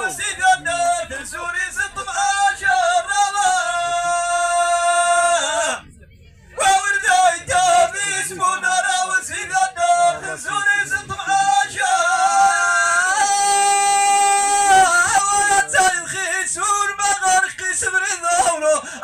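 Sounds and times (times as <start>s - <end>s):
man singing into microphone: 0.0s - 5.8s, 6.6s - 19.0s.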